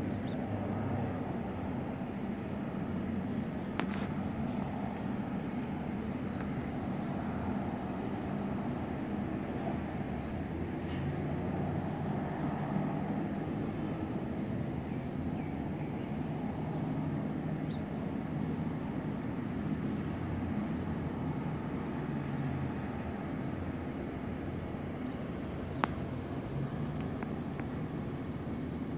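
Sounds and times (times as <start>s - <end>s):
airport background rumble: 0.0s - 28.9s.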